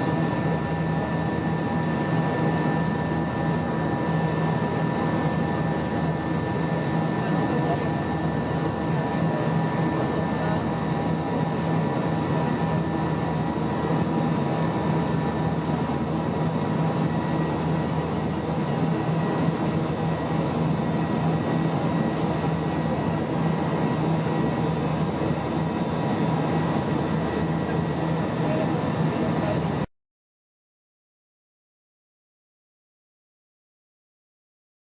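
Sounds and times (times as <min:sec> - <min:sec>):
aircraft engine drone: 0:00.0 - 0:29.9.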